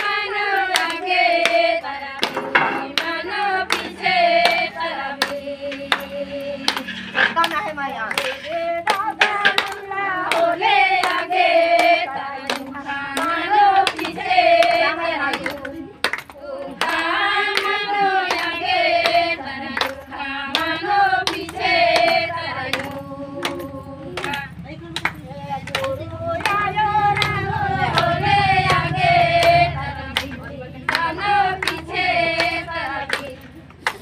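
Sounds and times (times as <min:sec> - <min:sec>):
rhythmic hand clapping: 0:00.0 - 0:34.0
women singing together: 0:00.0 - 0:34.0.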